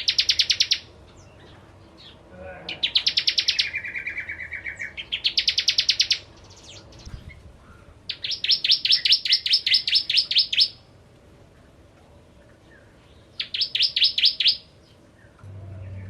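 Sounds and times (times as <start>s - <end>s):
bird singing fast trills: 0.0s - 10.8s, 12.6s - 16.0s.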